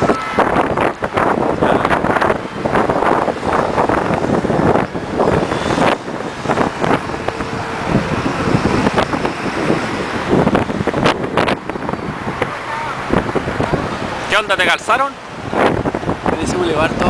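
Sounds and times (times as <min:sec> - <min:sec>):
cars passing: 0:00.0 - 0:17.0
motor scooters passing: 0:00.0 - 0:17.0.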